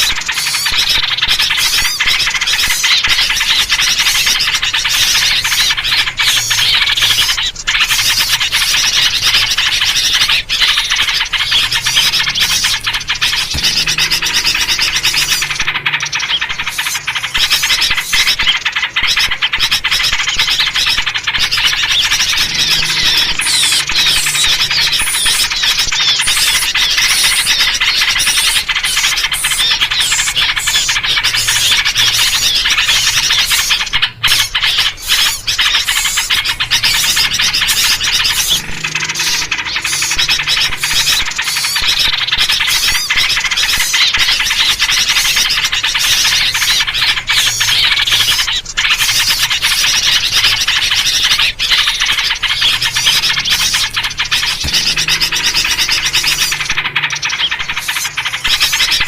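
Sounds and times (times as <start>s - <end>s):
many small birds chirping: 0.0s - 59.0s.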